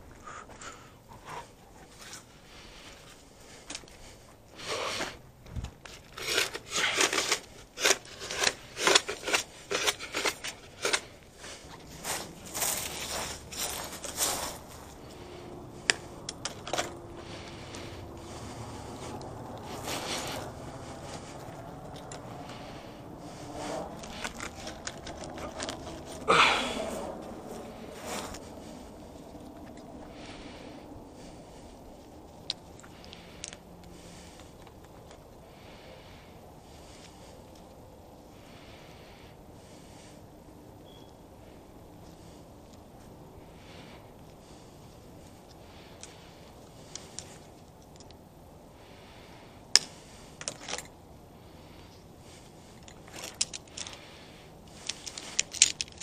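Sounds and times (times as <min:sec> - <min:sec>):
cable scraping and rustling: 0:00.5 - 0:35.9, 0:43.6 - 0:48.2, 0:48.8 - 0:56.0.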